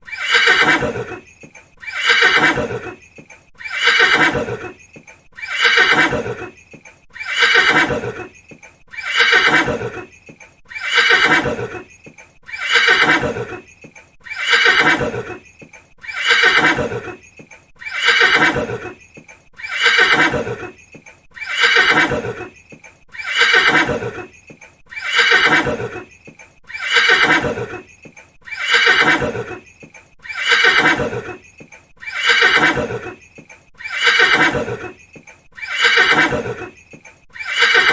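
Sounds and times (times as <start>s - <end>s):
horse whinnying: 0.0s - 10.1s, 10.7s - 15.4s, 16.0s - 19.0s, 19.6s - 37.9s.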